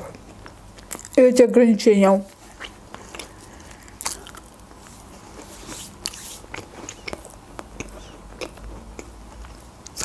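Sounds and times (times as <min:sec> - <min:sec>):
person chewing food: 0:00.0 - 0:01.2, 0:02.4 - 0:10.0.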